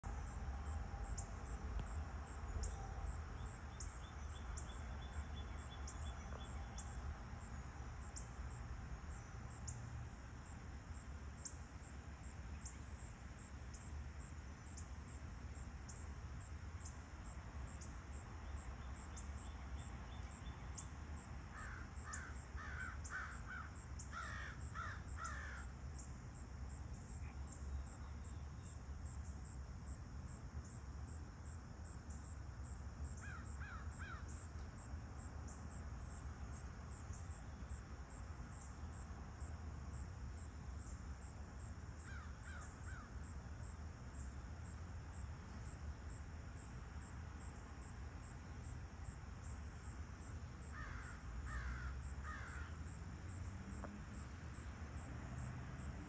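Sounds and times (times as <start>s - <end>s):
high insect chirp: 0.0s - 56.0s.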